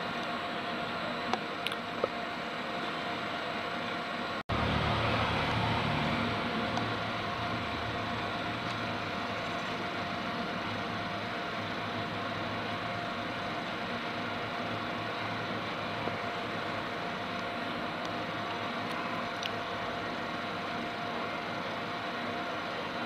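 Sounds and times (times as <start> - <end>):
background hum and hiss: 0.0 - 23.0
faint high whine: 0.0 - 23.0.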